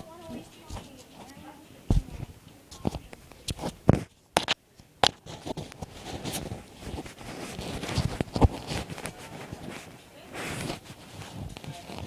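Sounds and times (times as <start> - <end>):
footsteps clicking: 0.0 - 12.0.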